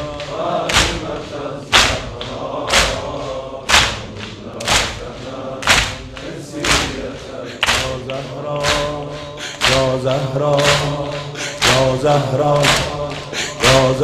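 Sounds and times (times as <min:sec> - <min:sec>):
group beating chests in rhythm: 0:00.0 - 0:14.0
low held choral voices: 0:00.0 - 0:14.0.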